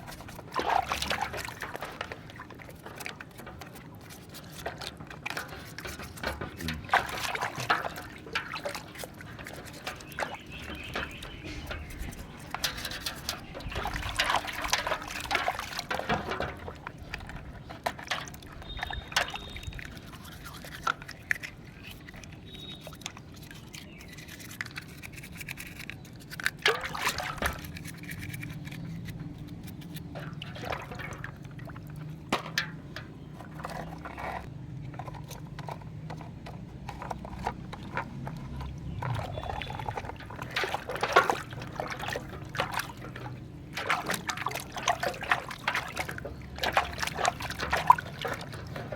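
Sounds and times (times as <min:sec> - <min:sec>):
toys clicking and knocking: 0:00.0 - 0:44.8, 0:45.4 - 0:48.9
water trickling and splashing: 0:00.0 - 0:48.9.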